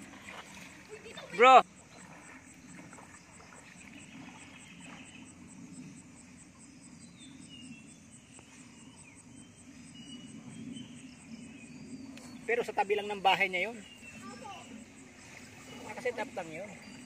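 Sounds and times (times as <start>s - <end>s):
insect chirping in high pulses: 0.0s - 17.0s
low outdoor background noise: 0.0s - 17.0s.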